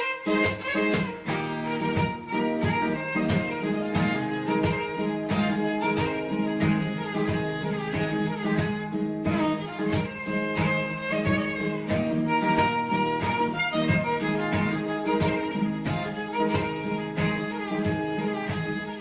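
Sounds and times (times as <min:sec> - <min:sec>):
plucked guitar: 0:00.0 - 0:19.0
steady beat: 0:00.0 - 0:19.0
violin: 0:00.0 - 0:19.0.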